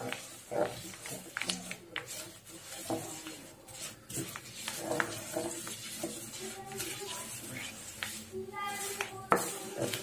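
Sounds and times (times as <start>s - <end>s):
spatula scraping sticky mass in pan: 0.0s - 10.0s.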